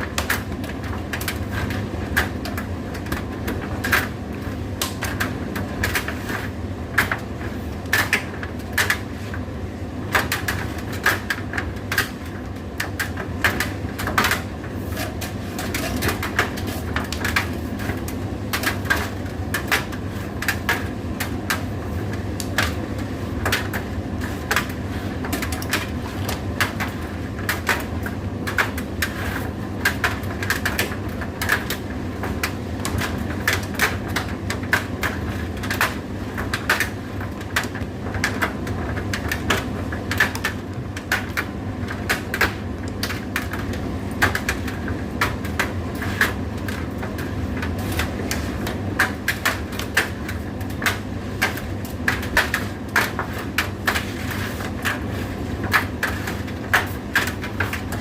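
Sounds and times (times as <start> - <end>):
tumble dryer motor hum: 0.0 - 58.0.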